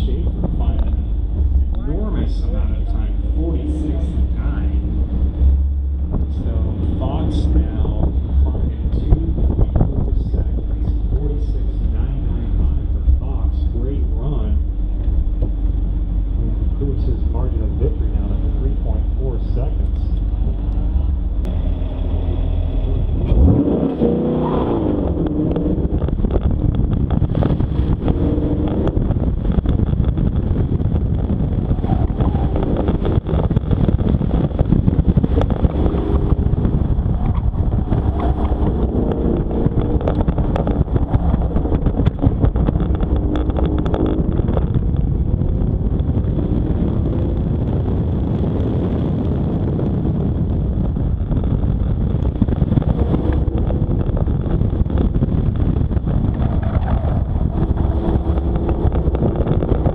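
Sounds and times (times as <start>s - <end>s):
car engine accelerating: 0.0s - 59.9s
wind noise: 0.0s - 59.9s.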